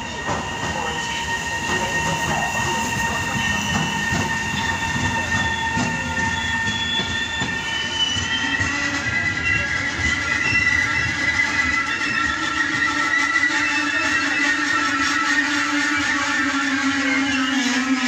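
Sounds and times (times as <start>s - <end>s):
high-pitched wheel squeal: 0.0s - 18.0s
train rumbling: 0.0s - 18.0s.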